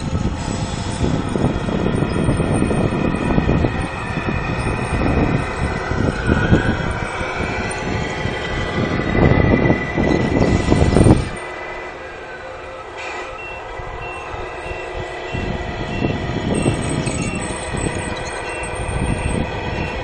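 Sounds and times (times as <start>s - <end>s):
faint wavering drivetrain whine: 0.0s - 20.0s
model truck wheels rumbling on asphalt: 0.0s - 20.0s.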